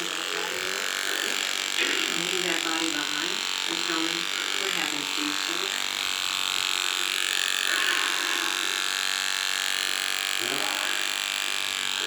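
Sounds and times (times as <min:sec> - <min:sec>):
steady electrical buzz: 0:00.0 - 0:12.0.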